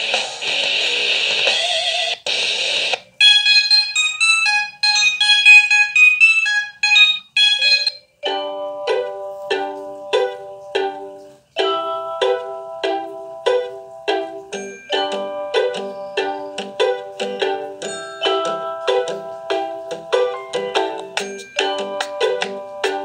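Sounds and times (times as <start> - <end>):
high chiming ringtone melody: 3.2 - 23.0
plucked ringtone tune: 3.2 - 23.0.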